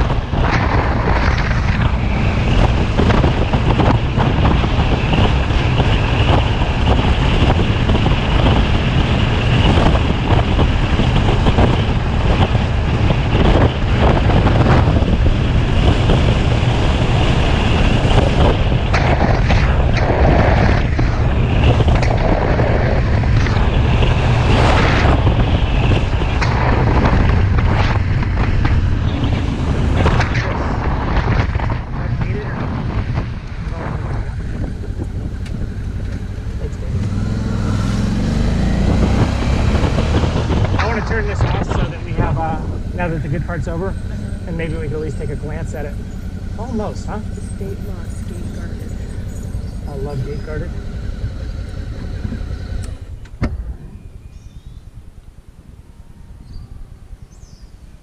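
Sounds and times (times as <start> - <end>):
motorcycle engine drone: 0.0 - 58.0
wind buffeting microphone: 0.0 - 58.0.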